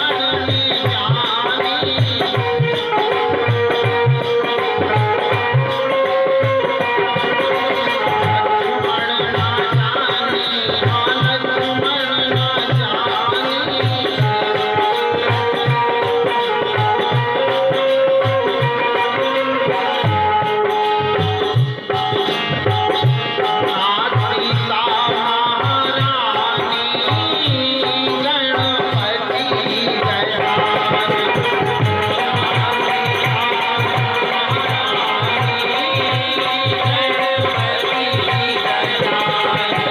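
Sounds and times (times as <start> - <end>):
hand drum beats: 0.0 - 39.9.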